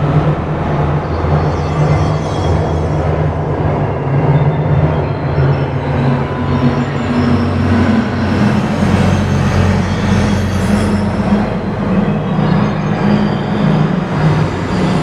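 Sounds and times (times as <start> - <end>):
low rumbling drone: 0.0 - 15.0.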